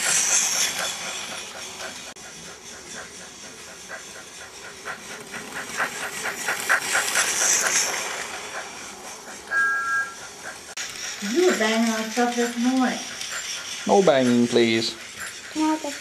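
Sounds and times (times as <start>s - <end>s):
toy train clicking on track: 0.0s - 16.0s
toy train hissing steam sound: 0.0s - 16.0s.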